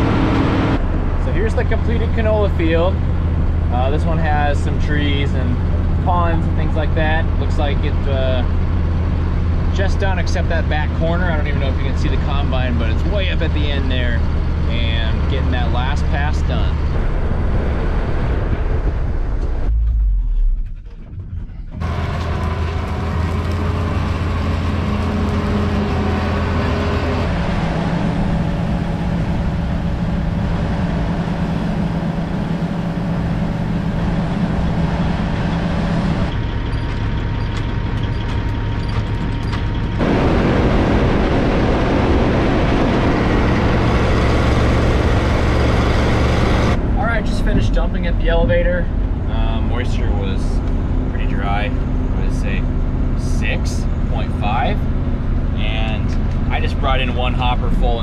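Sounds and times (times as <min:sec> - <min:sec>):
farm machinery engines droning: 0:00.0 - 0:58.0.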